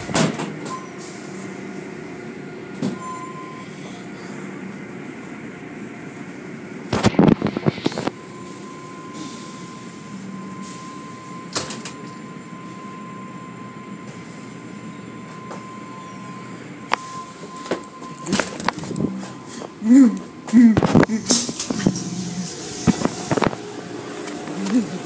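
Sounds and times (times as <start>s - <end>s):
car wash machinery rumble: 0.0s - 25.0s.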